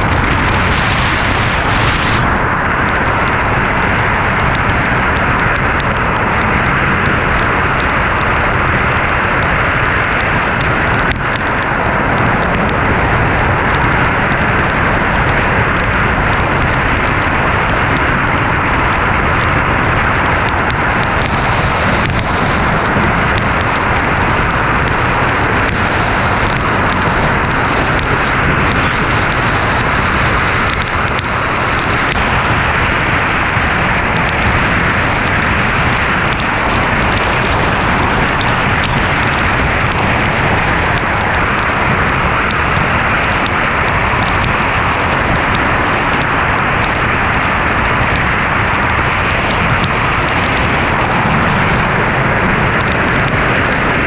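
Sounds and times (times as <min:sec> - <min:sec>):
heavy rain and wind: 0:00.0 - 0:54.0
tyres on wet road: 0:00.0 - 0:54.0.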